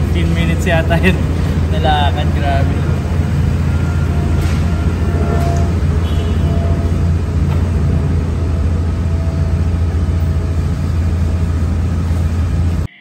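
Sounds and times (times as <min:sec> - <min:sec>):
vehicle engine idling: 0:00.0 - 0:12.9.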